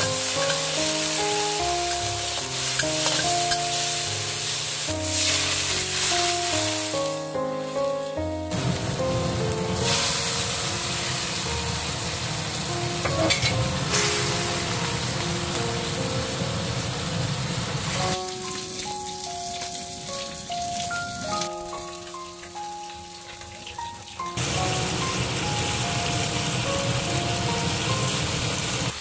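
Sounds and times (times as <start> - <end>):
background music: 0.0 - 29.0
sauce sizzling and bubbling: 0.0 - 29.0.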